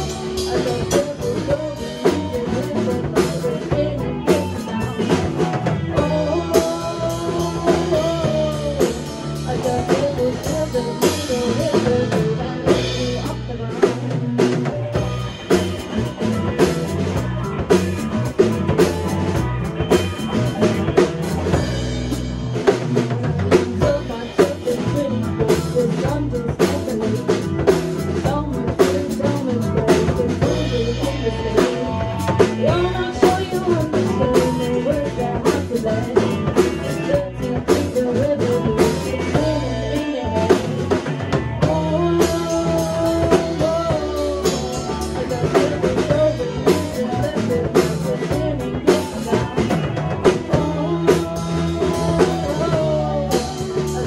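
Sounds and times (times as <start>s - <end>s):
woman singing: 0.0s - 21.8s, 23.2s - 54.0s
drum kit: 0.0s - 54.0s
electric guitars: 0.0s - 54.0s.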